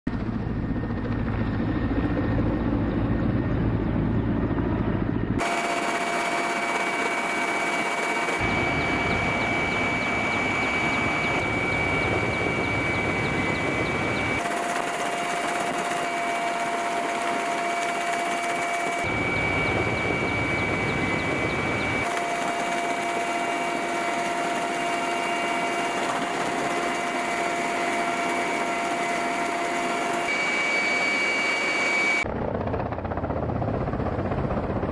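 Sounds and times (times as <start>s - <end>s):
helicopter running with high whine: 0.1s - 34.9s.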